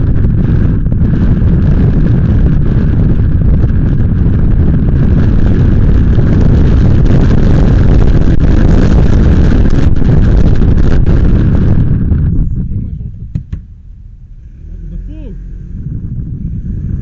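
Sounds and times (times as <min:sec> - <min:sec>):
motorcycle noise: 0:00.0 - 0:17.0
wind buffeting microphone: 0:00.0 - 0:17.0.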